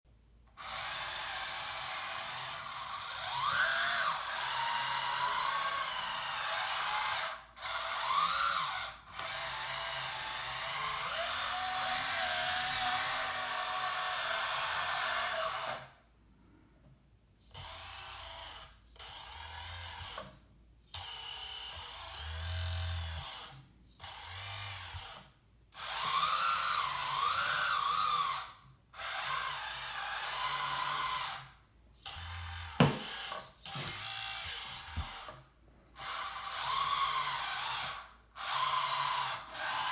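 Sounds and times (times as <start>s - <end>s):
toy motors and hydraulic pump whirring: 0.5s - 16.0s, 17.4s - 39.9s.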